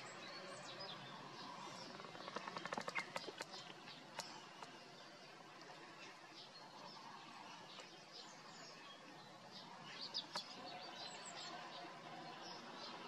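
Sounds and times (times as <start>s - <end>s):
background hiss: 0.0s - 13.0s
faint bird chirps: 0.0s - 13.0s.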